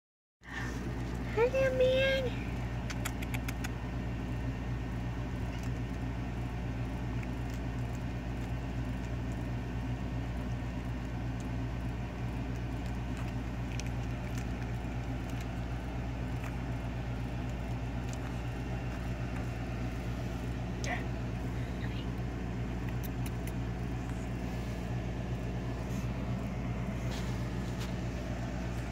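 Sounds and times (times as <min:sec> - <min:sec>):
low mechanical hum: 0:00.4 - 0:28.9.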